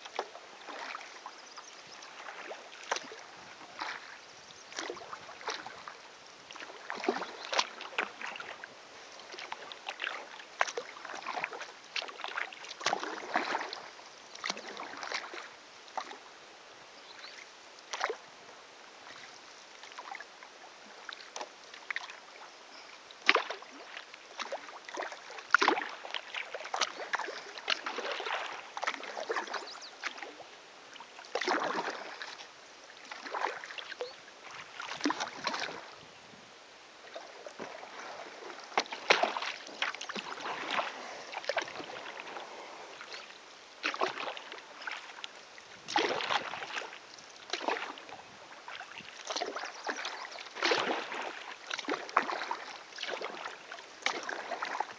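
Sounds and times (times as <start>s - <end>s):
paddle splashing in water: 0.0s - 16.4s, 17.1s - 18.3s, 18.9s - 36.0s, 36.9s - 54.9s.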